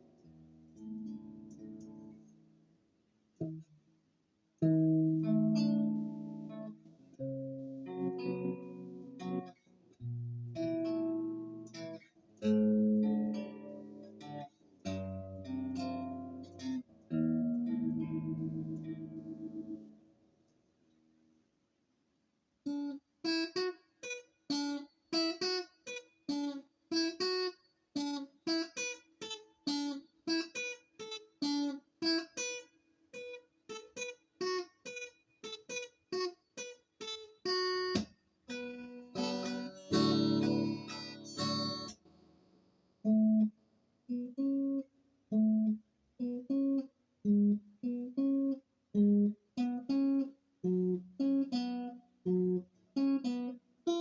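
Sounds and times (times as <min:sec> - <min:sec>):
acoustic guitar playing: 0:00.0 - 0:02.6, 0:04.6 - 0:20.1, 0:22.7 - 0:42.1, 0:43.0 - 0:54.0.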